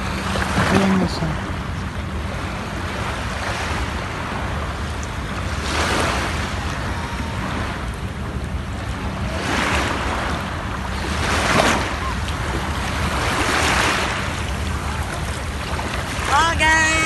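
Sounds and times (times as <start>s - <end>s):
small waves washing in shallows: 0.0s - 17.0s
wind rumbling on microphone: 0.0s - 17.0s.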